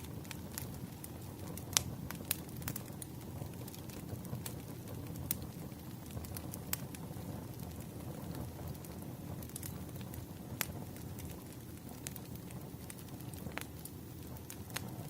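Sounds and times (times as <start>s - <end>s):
firewood crackling and popping: 0.0s - 15.0s
low rumble of flames: 0.0s - 15.0s.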